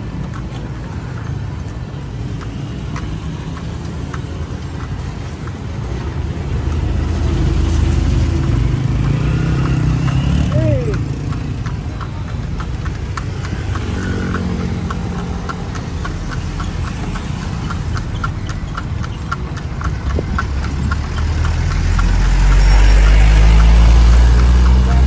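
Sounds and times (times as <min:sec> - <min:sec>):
horse hooves clip-clopping: 0:00.0 - 0:25.0.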